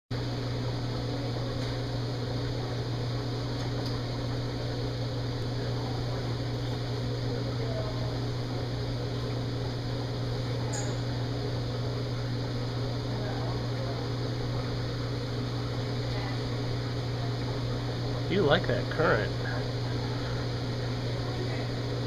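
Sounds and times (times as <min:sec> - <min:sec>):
machinery humming: 0:00.2 - 0:22.0.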